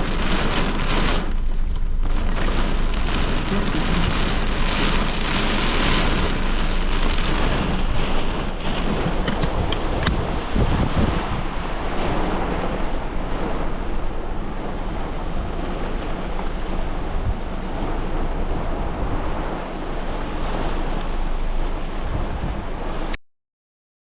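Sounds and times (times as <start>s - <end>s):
heavy rain: 0.0s - 23.2s
strong wind: 0.0s - 23.2s
wind rumbling on microphone: 0.0s - 23.2s.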